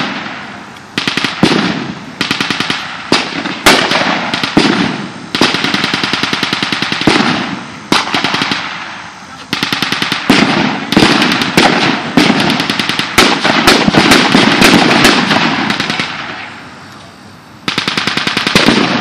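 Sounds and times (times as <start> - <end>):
rifle shots with echo: 0.0 - 16.6, 17.6 - 19.0
machine-gun bursts: 1.0 - 8.7, 9.5 - 16.2, 17.7 - 19.0.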